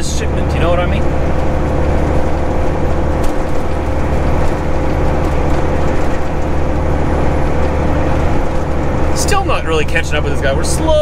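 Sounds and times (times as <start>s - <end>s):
diesel engine drone: 0.0s - 11.0s
road noise: 0.0s - 11.0s.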